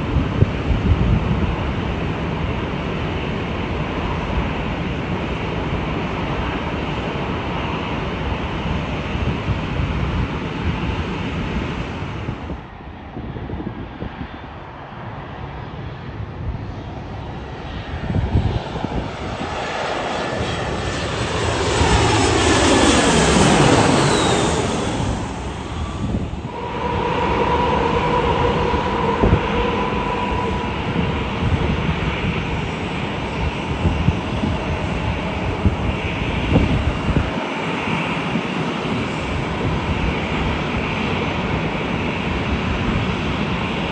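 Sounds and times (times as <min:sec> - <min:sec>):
jet airliner passing: 0:00.0 - 0:43.9.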